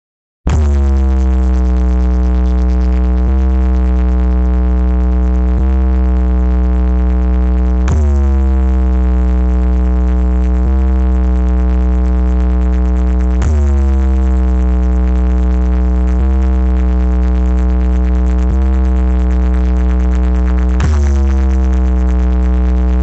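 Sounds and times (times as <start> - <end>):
deep sustained bass tones: 0.5 - 23.0
loud electronic music: 0.5 - 23.0.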